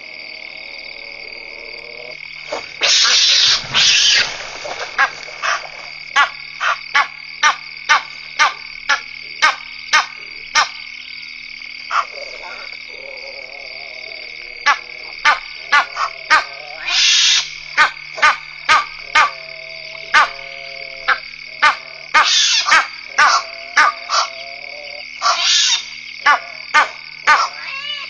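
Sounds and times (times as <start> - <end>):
frogs clicking calls: 0.0 - 28.0.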